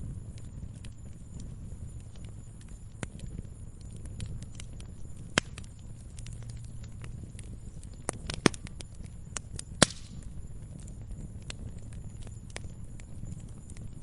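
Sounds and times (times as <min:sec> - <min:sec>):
fire crackling in fireplace: 0:00.0 - 0:14.0
fire pops: 0:00.0 - 0:14.0
low steady rumble: 0:00.0 - 0:14.0.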